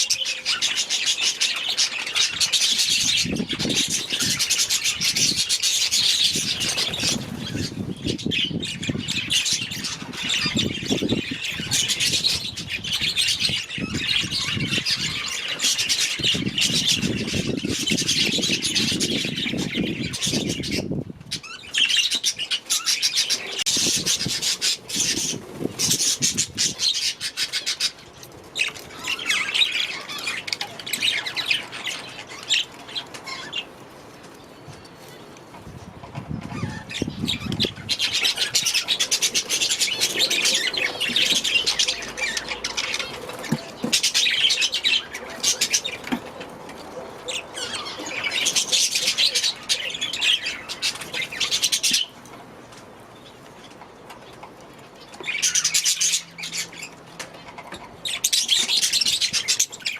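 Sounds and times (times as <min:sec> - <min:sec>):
budgerigars chattering and squawking: 0:00.0 - 0:28.0, 0:36.0 - 0:52.2, 0:55.0 - 0:59.9.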